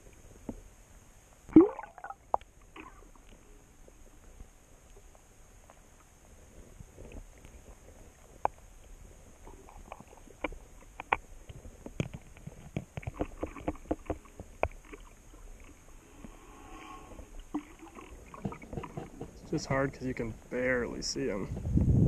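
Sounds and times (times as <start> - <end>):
low wind-like rumble: 2.2 - 13.2, 13.9 - 22.0.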